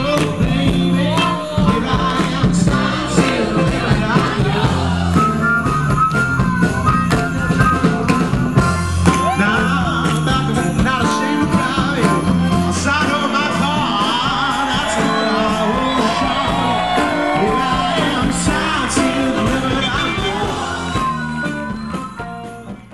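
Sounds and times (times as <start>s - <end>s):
rock song with singer: 0.0s - 22.9s.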